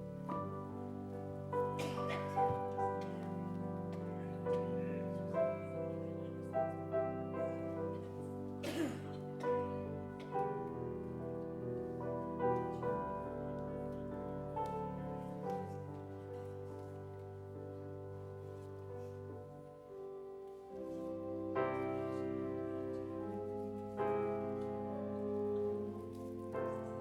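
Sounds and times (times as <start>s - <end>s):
slow keyboard music: 0.0s - 27.0s.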